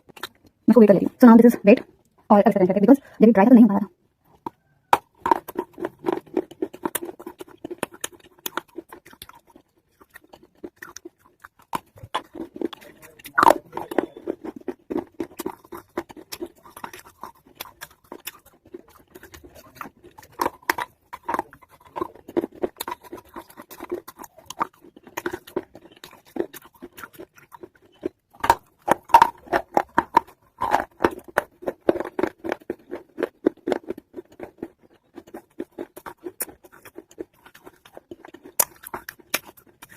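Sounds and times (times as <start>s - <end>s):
chewing and crunching clay: 0.0s - 39.9s.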